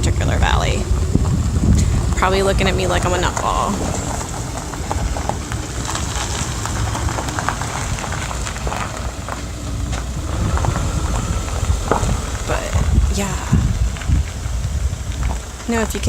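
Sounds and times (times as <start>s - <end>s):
car engine and tyres on road: 0.0s - 16.0s
wind rumbling on microphone: 0.0s - 16.0s
light crackling hiss: 0.1s - 16.0s.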